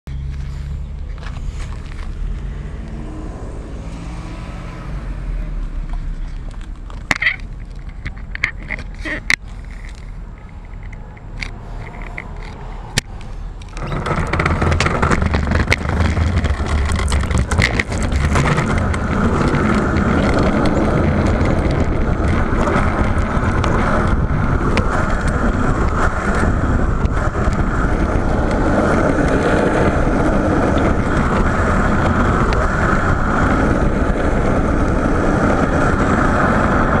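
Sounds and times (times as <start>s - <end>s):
bicycle tyres rolling on pavement: 0.1s - 37.0s.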